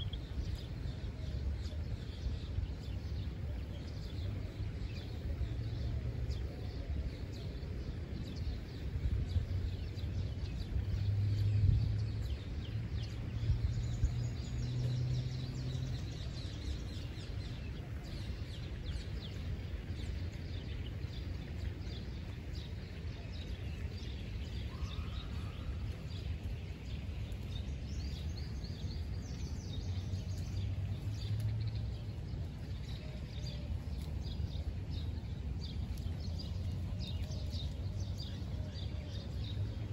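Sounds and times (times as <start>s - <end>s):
small birds chirping: 0.0s - 39.9s
wind buffeting microphone: 0.0s - 39.9s.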